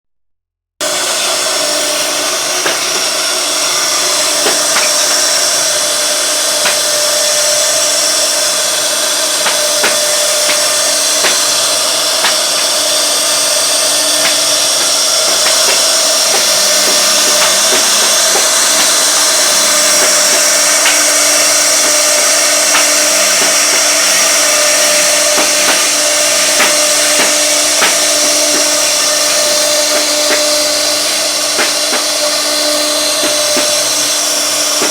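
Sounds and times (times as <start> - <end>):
router spindle cutting wood: 0.8 - 34.9.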